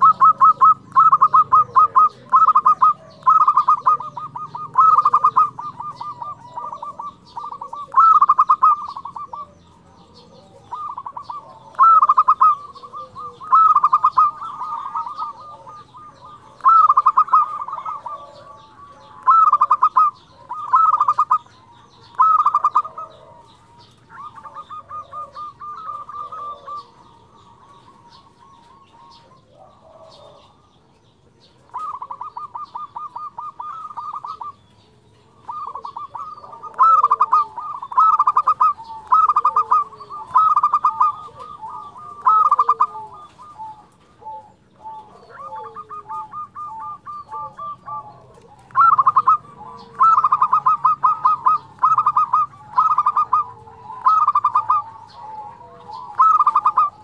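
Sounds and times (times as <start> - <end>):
dove cooing with trills: 0.0 - 57.0.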